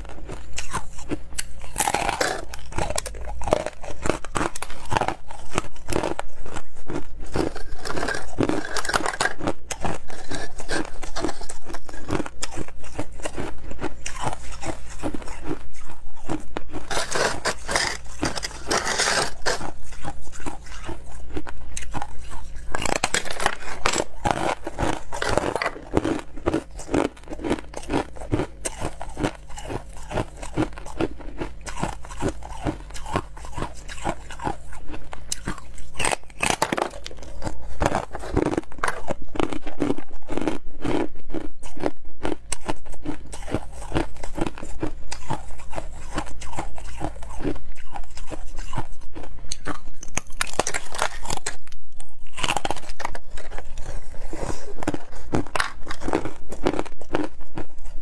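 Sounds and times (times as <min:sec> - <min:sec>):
ice being chewed crunching: 0:00.0 - 0:58.0.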